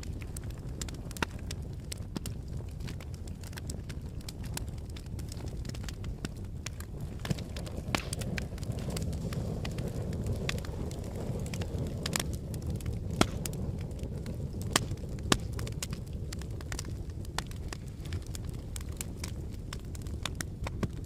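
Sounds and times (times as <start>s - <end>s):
lava crackling: 0.0s - 21.0s.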